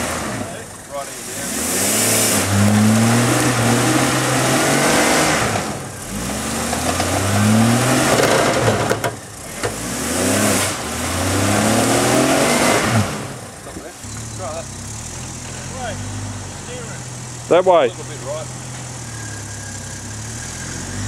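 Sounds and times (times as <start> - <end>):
jeep engine revving: 0.0 - 21.0.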